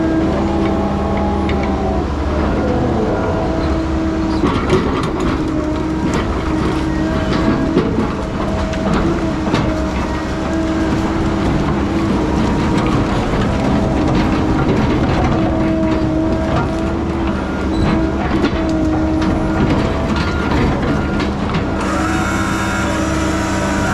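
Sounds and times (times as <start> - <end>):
heavy diesel machine running: 0.0 - 23.9.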